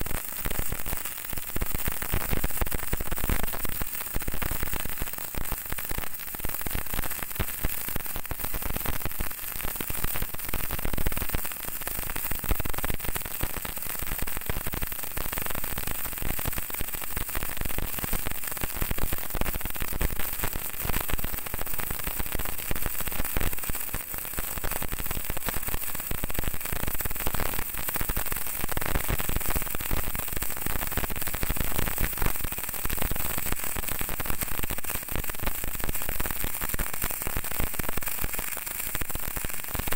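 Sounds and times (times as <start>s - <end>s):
welding arc crackling: 0.0s - 39.9s.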